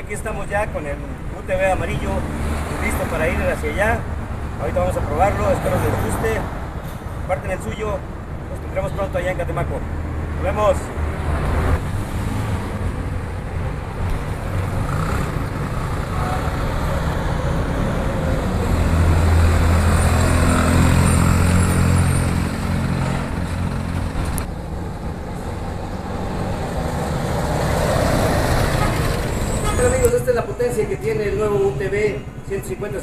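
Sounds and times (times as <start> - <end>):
street traffic: 0.0 - 33.0.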